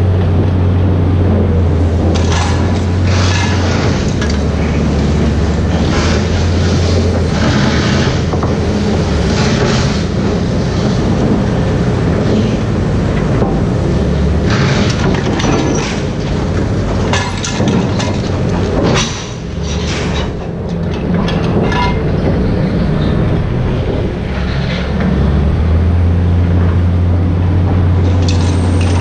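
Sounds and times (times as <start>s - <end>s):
crane diesel engine running: 0.0s - 29.0s.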